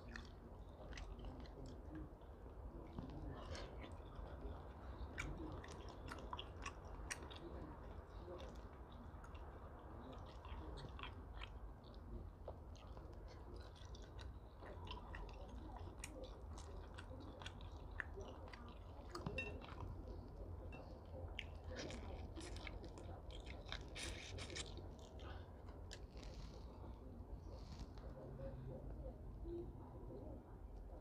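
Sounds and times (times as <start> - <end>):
person chewing shrimp: 0.0 - 2.1, 2.8 - 26.7.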